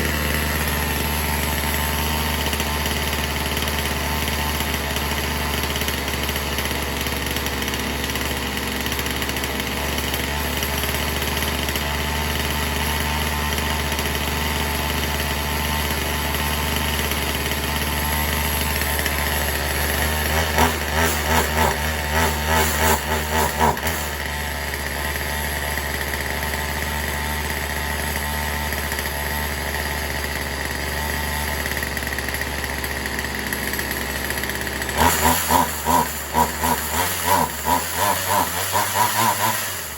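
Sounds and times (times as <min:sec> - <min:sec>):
chainsaw idling: 0:00.0 - 0:39.9
chainsaw revving: 0:00.0 - 0:39.9.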